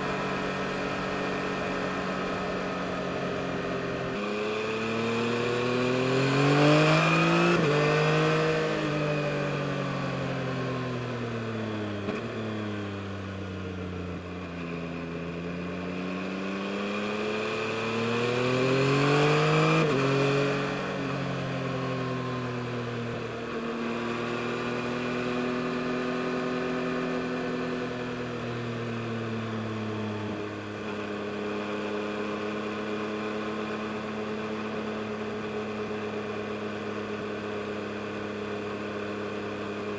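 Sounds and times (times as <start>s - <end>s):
motorcycle engine revving: 0.0s - 14.3s, 14.9s - 39.9s.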